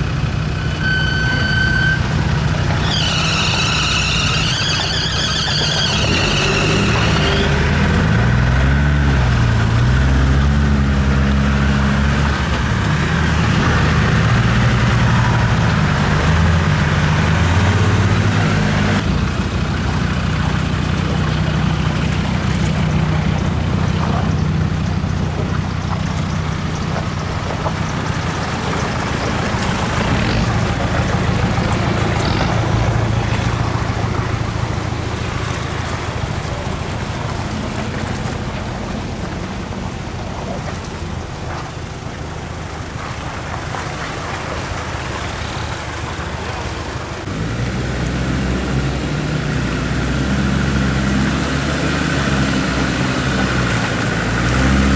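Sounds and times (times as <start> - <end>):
engine revving while driving off-road: 0.0 - 54.9.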